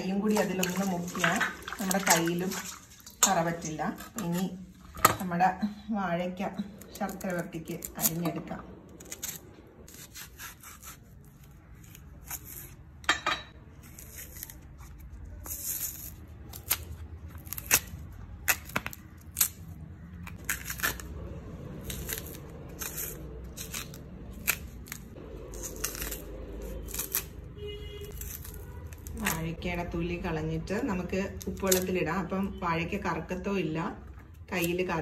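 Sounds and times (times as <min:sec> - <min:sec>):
knife scraping plantain peel: 0:00.1 - 0:05.2, 0:06.6 - 0:29.6, 0:31.2 - 0:32.1.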